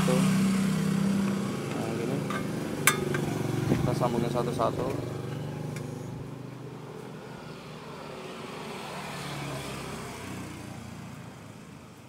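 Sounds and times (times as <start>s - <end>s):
road vehicle passing by: 0.0s - 12.0s.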